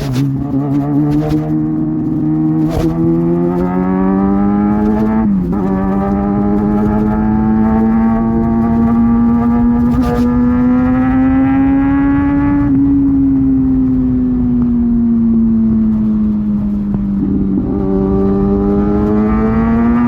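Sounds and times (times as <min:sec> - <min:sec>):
motorcycle engine at speed: 0:00.0 - 0:20.0
wind noise: 0:00.0 - 0:20.0.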